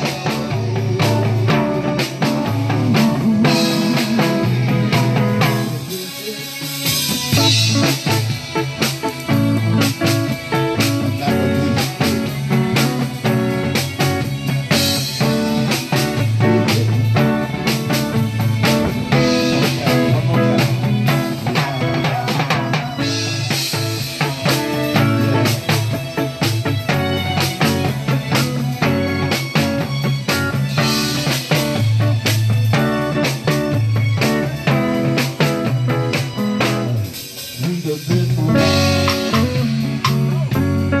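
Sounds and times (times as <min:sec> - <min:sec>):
live band music: 0:00.0 - 0:41.0.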